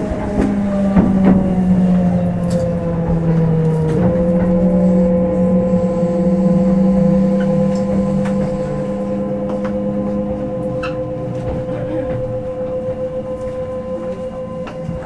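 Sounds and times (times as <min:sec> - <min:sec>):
electric train motor hum: 0:00.0 - 0:15.0.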